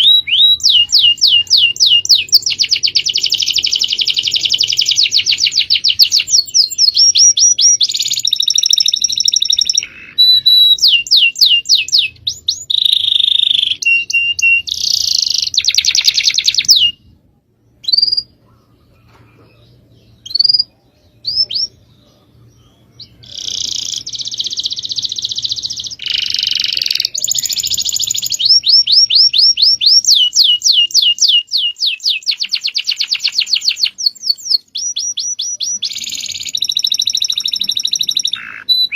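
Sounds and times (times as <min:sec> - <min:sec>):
songbirds trilling: 0:00.0 - 0:38.9.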